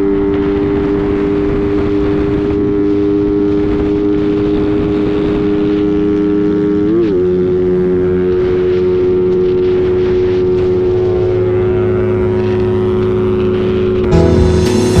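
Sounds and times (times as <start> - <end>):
motorcycle engine cruising: 0.0 - 15.0
road and wind noise: 0.0 - 15.0.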